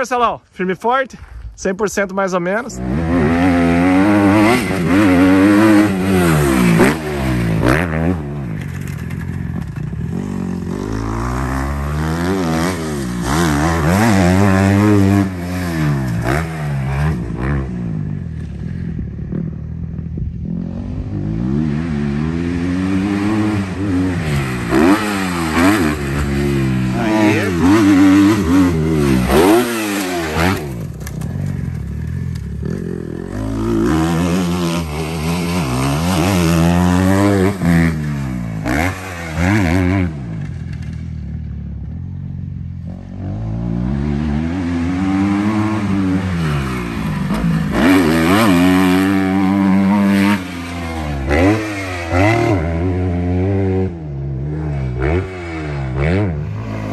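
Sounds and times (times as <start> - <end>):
motocross engine revving: 1.2 - 41.6, 42.9 - 56.9.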